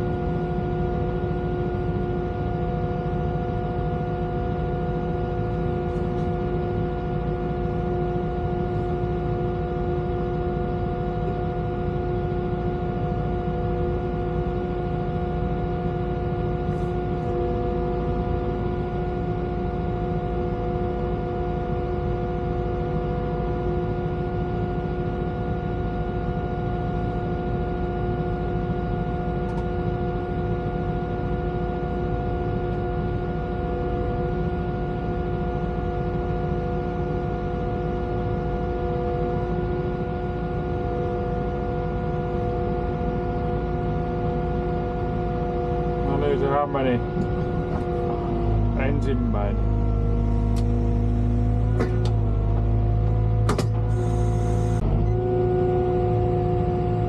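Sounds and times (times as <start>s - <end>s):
steady whining tones: 0.0s - 23.0s, 32.3s - 57.0s
excavator engine hum: 0.0s - 57.0s.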